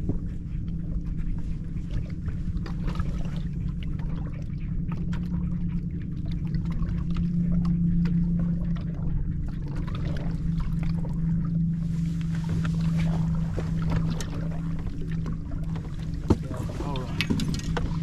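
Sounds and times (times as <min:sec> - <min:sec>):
boat motor hum: 0:00.0 - 0:18.0
water trickling and splashing: 0:00.0 - 0:18.0.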